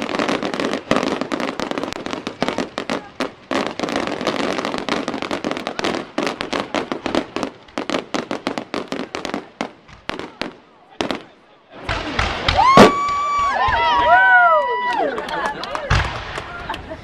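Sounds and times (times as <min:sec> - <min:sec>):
fireworks bangs and crackles: 0:00.0 - 0:14.9, 0:15.7 - 0:17.0.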